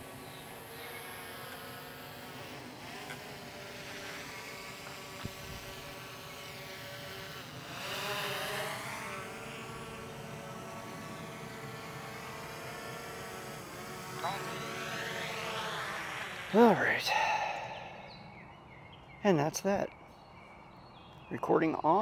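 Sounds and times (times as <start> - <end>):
drone propellers whining: 0.0 - 18.9.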